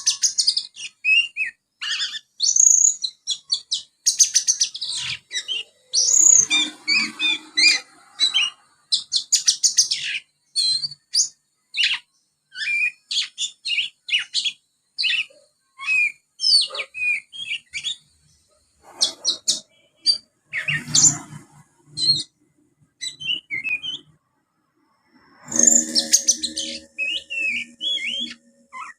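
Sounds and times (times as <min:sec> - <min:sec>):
bird twittering and whistling: 0:00.0 - 0:18.1, 0:18.8 - 0:22.4, 0:23.0 - 0:24.2, 0:25.1 - 0:28.9.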